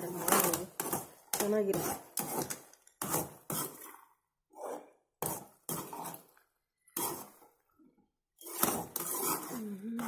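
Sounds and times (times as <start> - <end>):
metal spoon scraping a pan: 0.0 - 7.7, 8.4 - 10.0.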